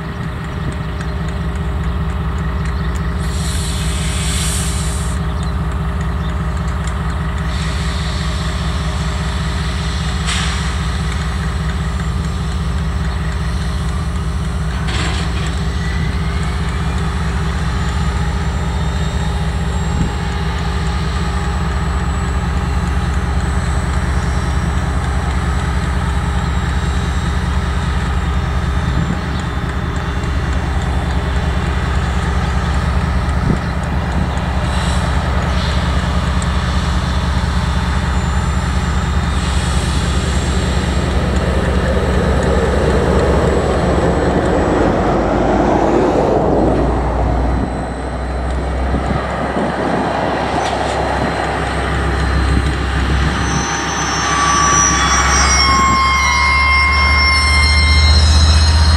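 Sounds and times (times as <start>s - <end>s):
diesel locomotive idling: 0.0s - 58.9s.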